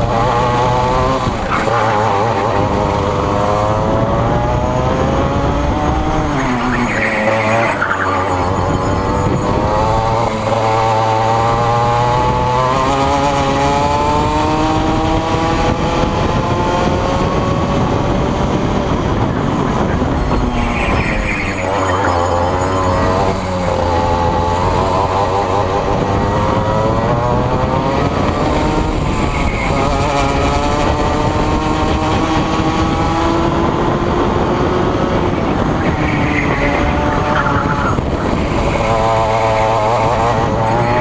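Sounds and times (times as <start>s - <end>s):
kart two-stroke engine revving: 0.0s - 41.0s.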